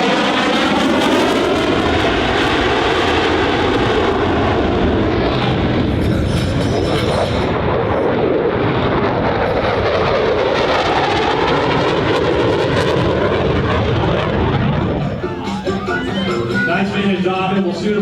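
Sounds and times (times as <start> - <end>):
jet engine noise: 0.0 - 18.0.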